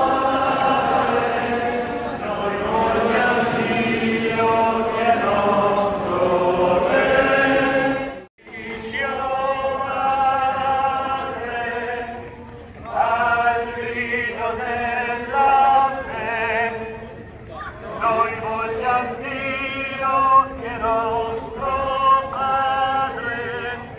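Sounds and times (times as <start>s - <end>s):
group singing a hymn: 0.0s - 17.1s, 17.8s - 23.9s.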